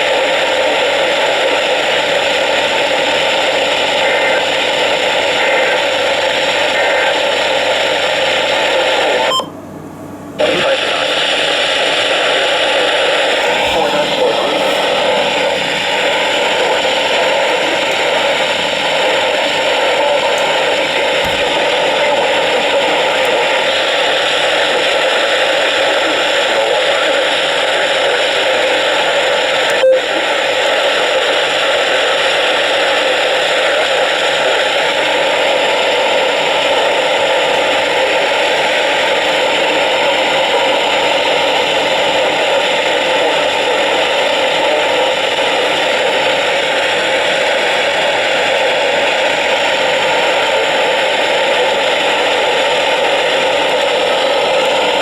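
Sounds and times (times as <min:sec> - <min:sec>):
radio static hiss: 0:00.0 - 0:09.5, 0:10.2 - 0:55.0.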